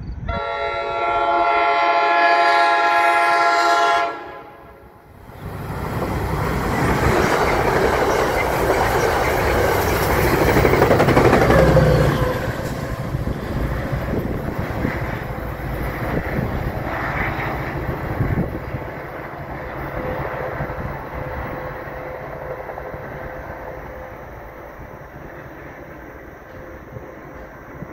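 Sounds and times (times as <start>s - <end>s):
train wheels rumbling and clacking: 5.2s - 27.9s.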